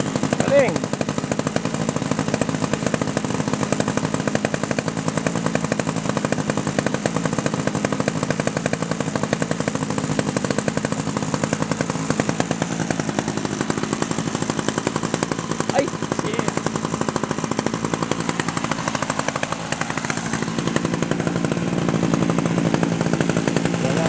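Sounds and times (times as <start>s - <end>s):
rotor blades chopping: 0.0s - 24.0s
small gasoline engine running: 0.0s - 24.0s.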